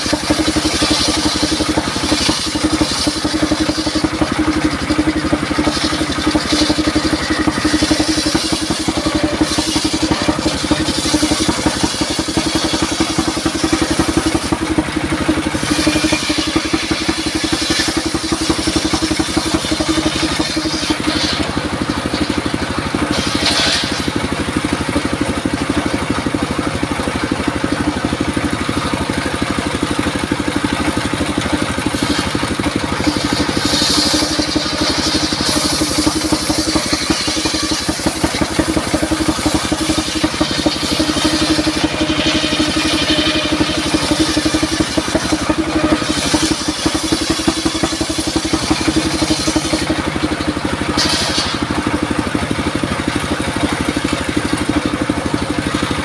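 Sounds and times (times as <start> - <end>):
diesel engine chugging: 0.0 - 56.0
saw blade cutting wood: 0.0 - 56.0.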